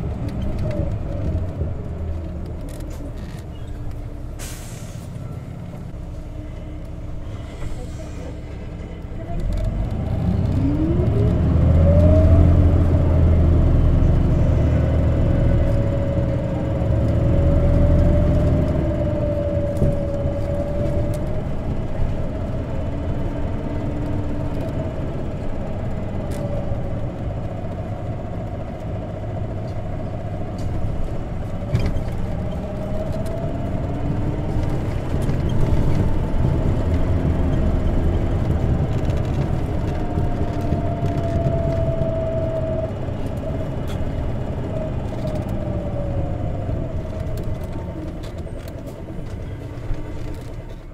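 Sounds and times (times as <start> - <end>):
bus engine drone: 0.0 - 50.9.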